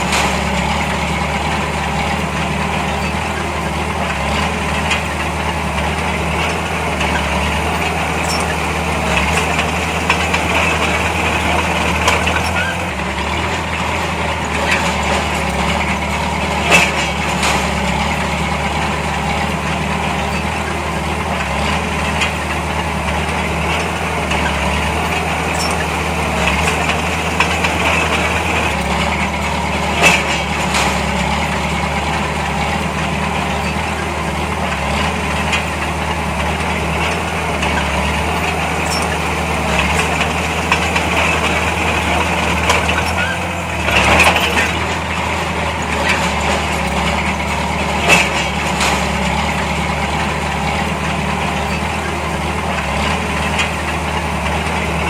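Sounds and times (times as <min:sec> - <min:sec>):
diesel engine droning: 0:00.0 - 0:55.0
sharp metallic clanks: 0:00.0 - 0:55.0.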